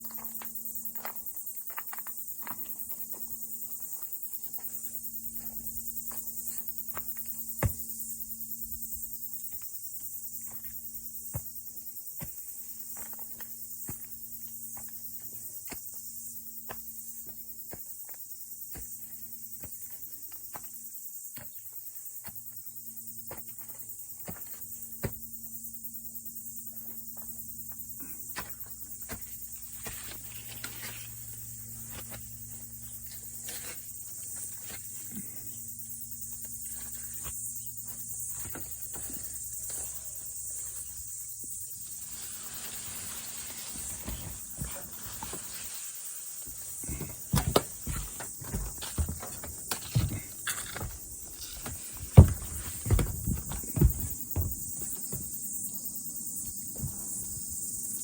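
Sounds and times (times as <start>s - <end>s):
cicadas shrilling: 0.0s - 58.0s.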